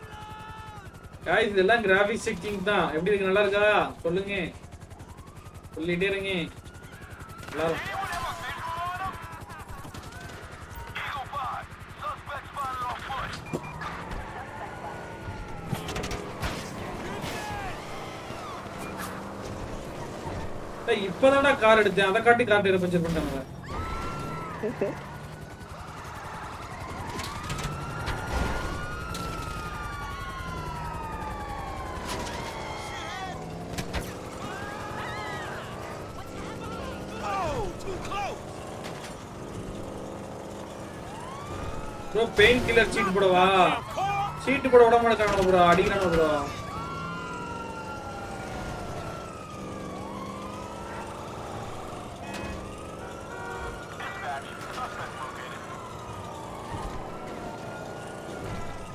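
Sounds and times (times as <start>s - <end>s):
police siren wailing: 0.0s - 58.9s
car engine running: 6.5s - 58.9s.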